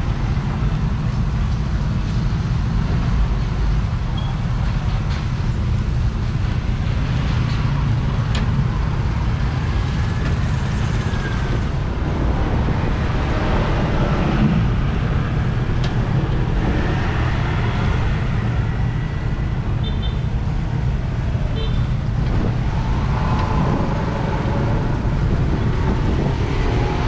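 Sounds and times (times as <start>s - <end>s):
passing vehicle engines rumbling: 0.0s - 27.0s.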